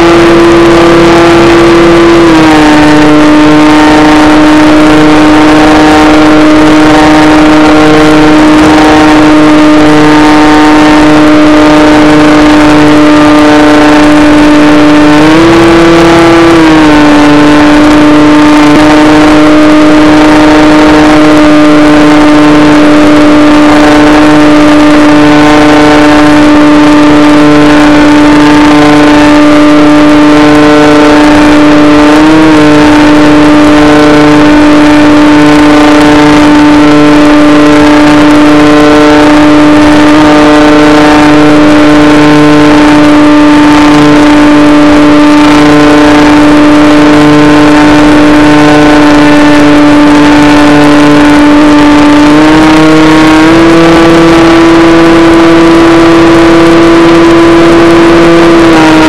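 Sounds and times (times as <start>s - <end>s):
electric motor and propeller droning: 0.0s - 59.0s
faint on-off pulsing: 0.0s - 59.0s.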